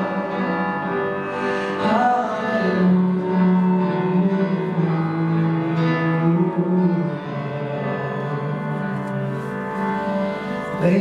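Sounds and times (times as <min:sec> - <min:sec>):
live slow ballad music: 0:00.0 - 0:11.0.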